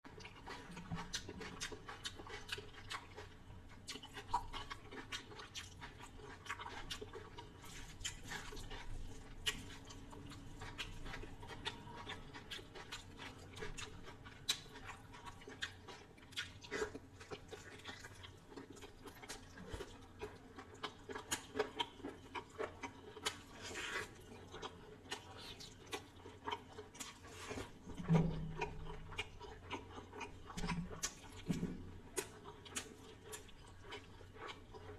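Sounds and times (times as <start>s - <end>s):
person chewing and lip-smacking: 0.1s - 34.9s.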